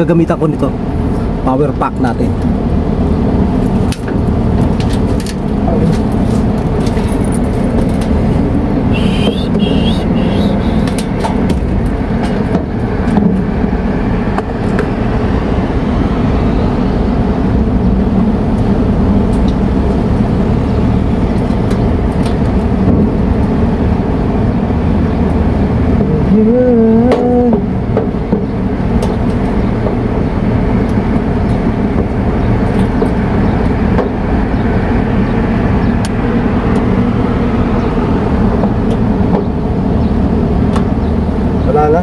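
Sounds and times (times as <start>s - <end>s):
compressor humming: 0.0s - 42.0s.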